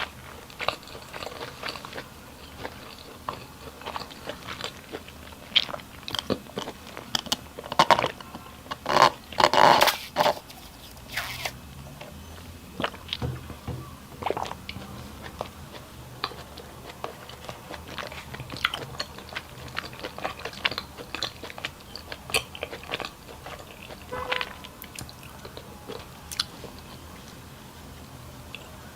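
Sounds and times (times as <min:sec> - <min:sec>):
person crunching and chewing: 0:00.0 - 0:27.4.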